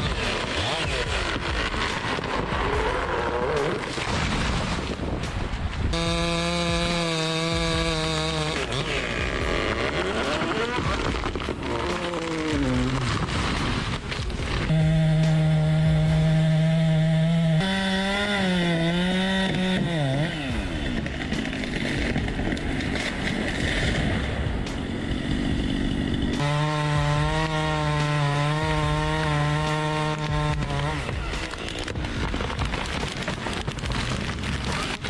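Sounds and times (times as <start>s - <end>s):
chainsaw running at high revs: 5.9s - 35.0s.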